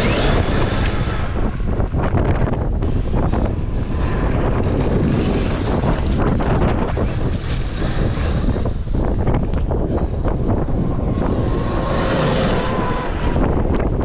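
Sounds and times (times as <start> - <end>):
electric motor whine: 0.0 - 1.9, 3.8 - 14.0
wind buffeting microphone: 0.0 - 14.0.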